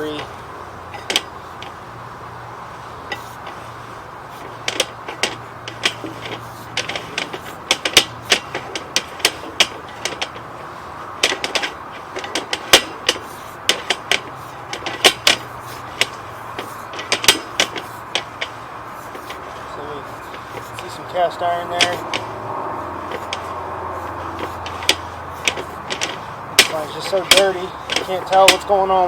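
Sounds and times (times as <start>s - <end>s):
sharp clicks and knocks: 0.0s - 2.0s, 2.7s - 29.0s
steady hum: 0.0s - 29.0s.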